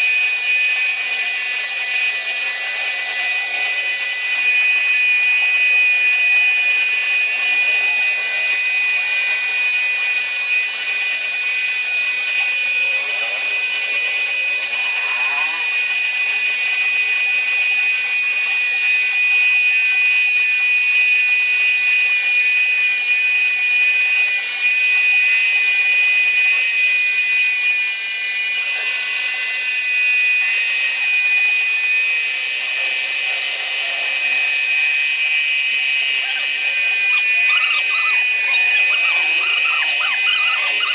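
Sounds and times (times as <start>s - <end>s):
router spindle cutting wood: 0.0s - 40.9s.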